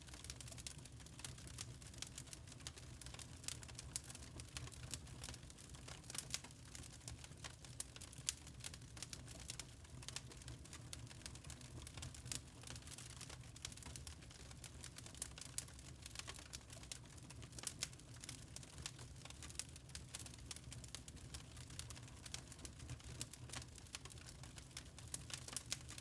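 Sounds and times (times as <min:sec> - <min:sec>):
charcoal crackling and popping: 0:00.0 - 0:26.0.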